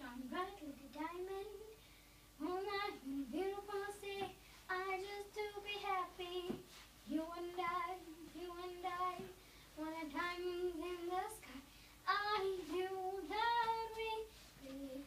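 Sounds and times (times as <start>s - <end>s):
girl singing unaccompanied: 0.0s - 15.0s.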